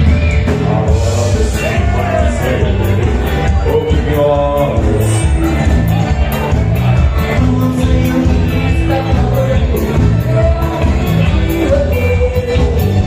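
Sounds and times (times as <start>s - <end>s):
live dance band playing: 0.0s - 13.0s
person singing: 0.0s - 13.0s.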